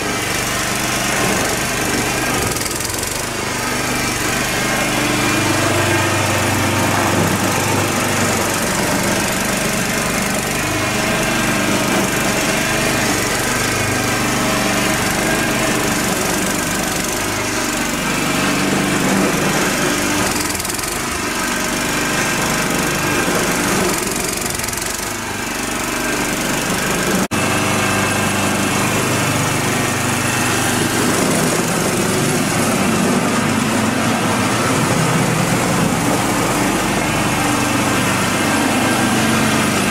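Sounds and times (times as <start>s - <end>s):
small petrol engine under load: 0.0s - 39.9s
snow thrower throwing snow: 0.0s - 39.9s.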